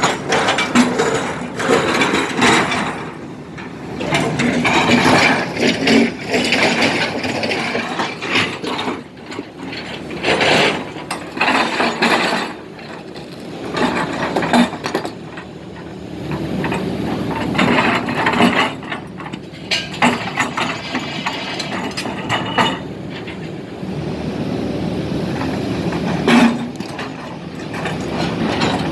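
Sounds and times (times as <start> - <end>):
excavator clanking and rattling: 0.0 - 28.9.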